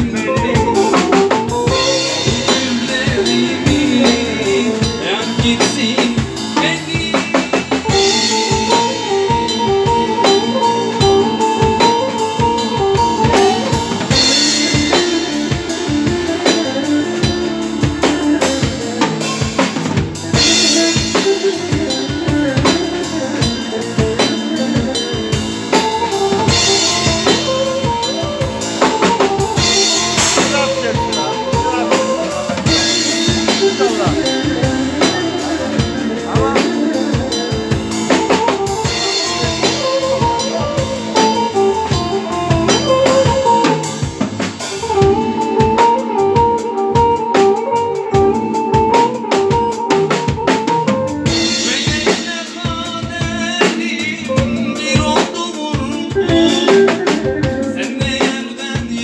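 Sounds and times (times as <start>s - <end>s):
drum kit beating: 0.0s - 59.0s
keyboard or guitar melody: 0.0s - 59.0s.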